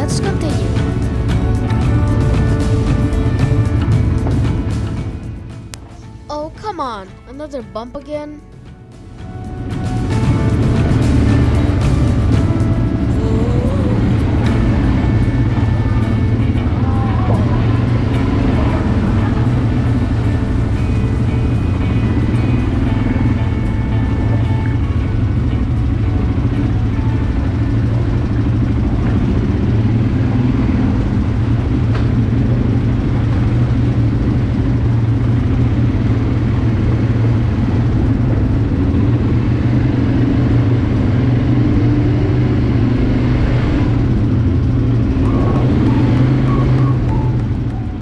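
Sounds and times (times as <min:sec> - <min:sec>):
quad bike engine running: 0:09.3 - 0:48.0.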